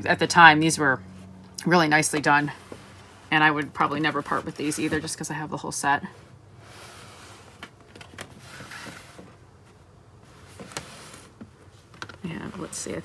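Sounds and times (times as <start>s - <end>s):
cardboard boxes rustling and scraping: 2.1s - 13.0s.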